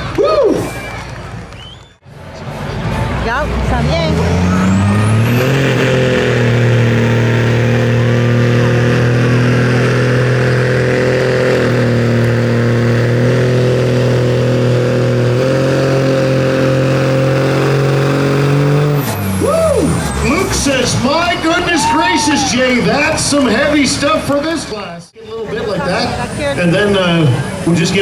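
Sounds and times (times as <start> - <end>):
truck engine at high revs: 0.0 - 24.8.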